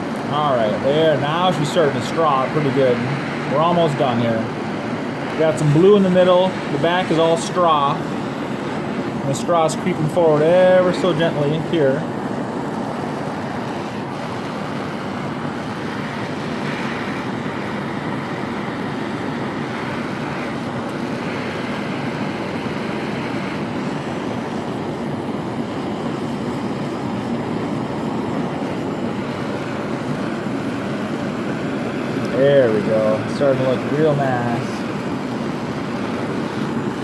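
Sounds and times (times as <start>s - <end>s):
rushing torch flame: 0.0s - 37.0s.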